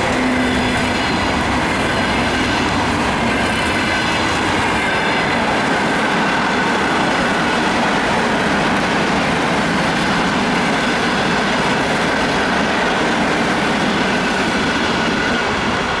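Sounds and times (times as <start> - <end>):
high train whine: 0.0 - 16.0
train wheels rumbling on rails: 0.0 - 16.0.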